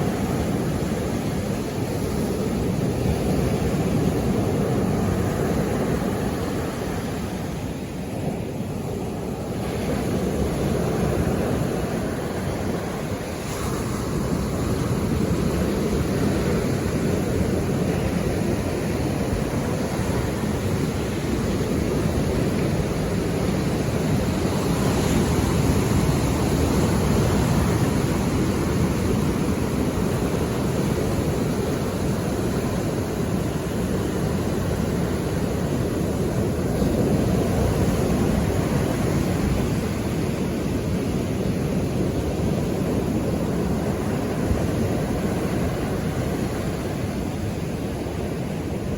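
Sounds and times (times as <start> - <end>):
sea waves washing ashore: 0.0 - 48.9
wind on microphone: 0.0 - 48.9.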